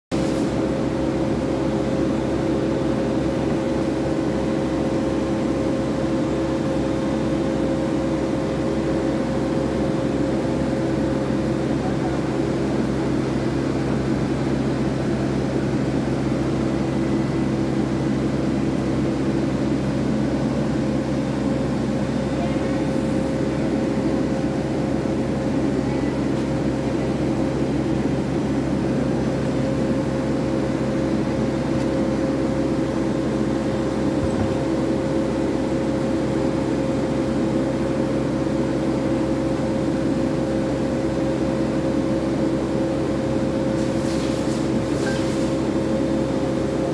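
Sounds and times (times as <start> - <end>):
machinery hum: 0.2 - 46.9.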